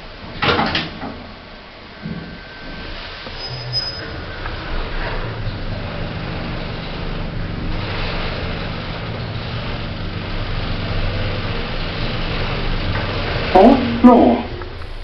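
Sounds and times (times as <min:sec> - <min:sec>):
lift car hum and rumble: 0:00.0 - 0:15.0.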